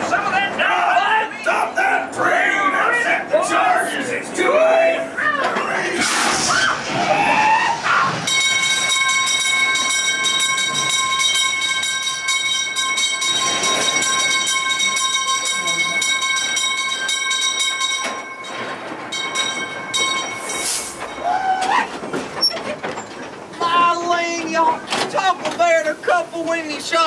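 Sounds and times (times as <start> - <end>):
ore cars rolling on track: 0.0 - 27.0.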